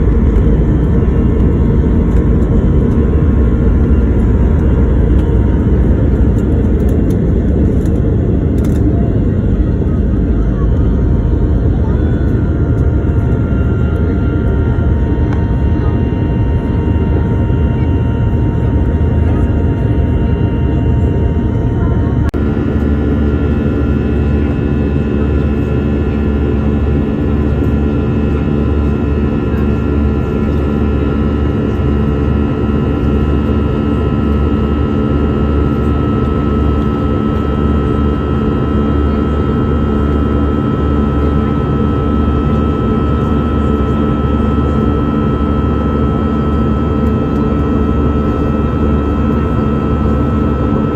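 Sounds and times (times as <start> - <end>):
airliner engines rumbling and whining: 0.0 - 50.9.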